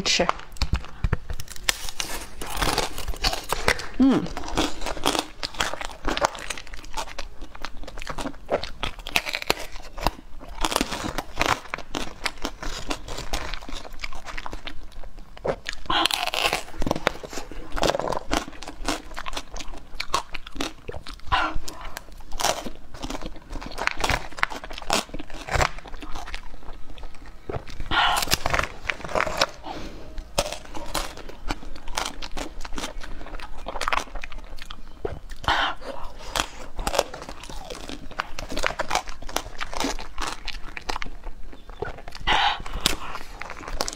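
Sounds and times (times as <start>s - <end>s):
crunching and chewing frozen treat: 0.1s - 43.9s.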